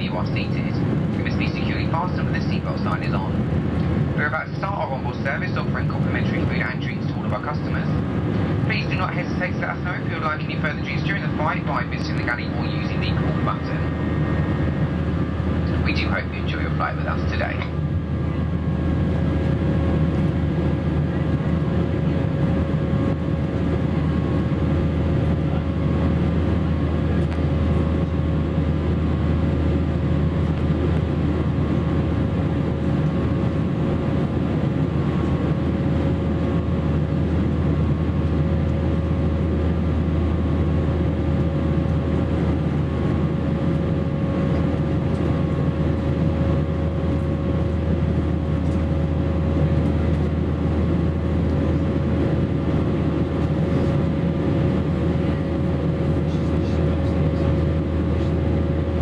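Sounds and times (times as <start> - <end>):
jet engine drone in cabin: 0.0 - 59.0
steady hum: 0.0 - 59.0.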